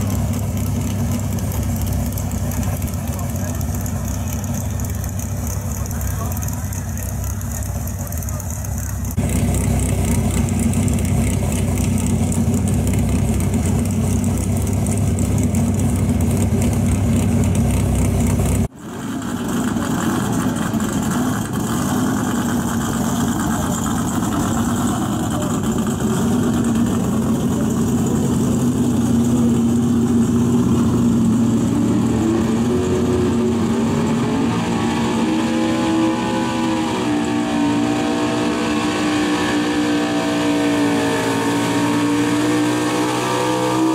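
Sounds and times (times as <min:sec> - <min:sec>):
pickup engine running hard: 0:00.0 - 0:43.9.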